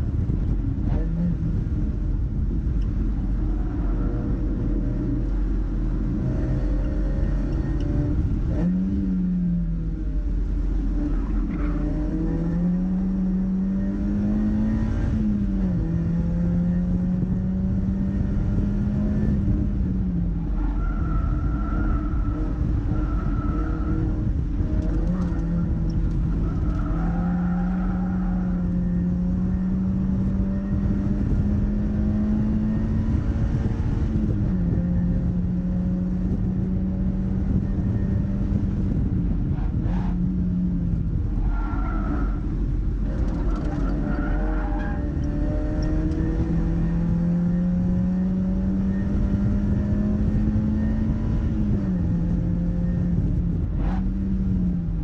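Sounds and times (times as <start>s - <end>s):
car engine running hard: 0.0s - 55.0s
road and wind noise: 0.0s - 55.0s.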